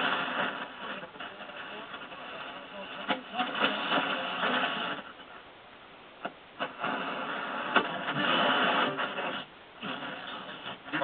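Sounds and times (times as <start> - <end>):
radio static hiss: 0.0 - 11.0
static crackles and pops: 0.0 - 11.0.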